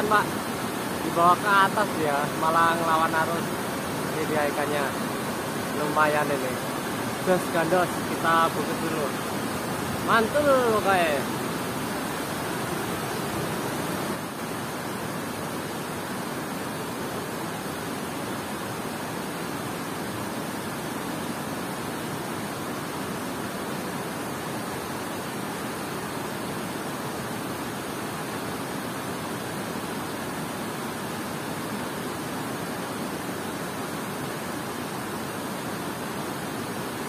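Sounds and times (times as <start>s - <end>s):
water rushing over dam spillway: 0.0s - 37.0s.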